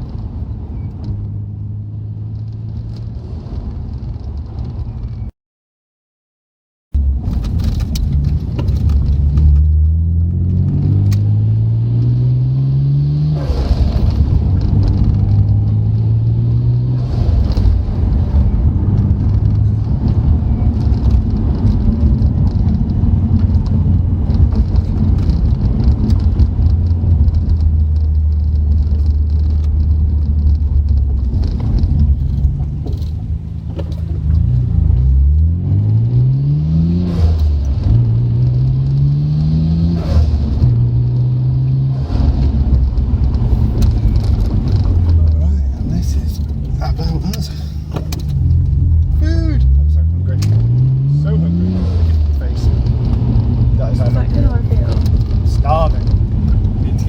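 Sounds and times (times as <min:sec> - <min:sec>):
car engine accelerating: 0:07.0 - 0:57.0.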